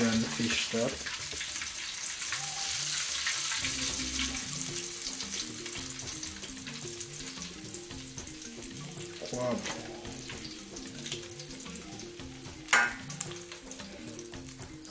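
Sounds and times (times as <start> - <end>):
faint background music: 0.0 - 14.9
fish frying in hot oil: 0.0 - 14.9.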